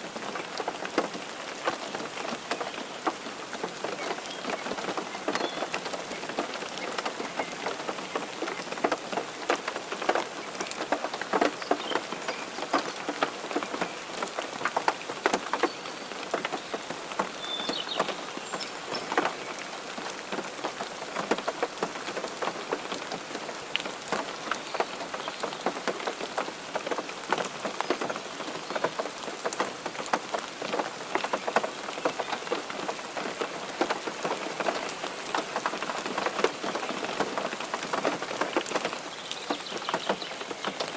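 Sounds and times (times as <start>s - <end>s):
rain on hard surface: 0.0s - 40.9s.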